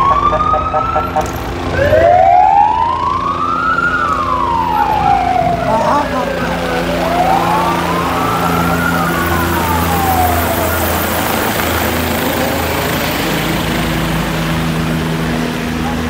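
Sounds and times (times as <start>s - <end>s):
siren wailing: 0.0s - 15.0s
helicopter engine and rotor drone: 0.0s - 16.0s.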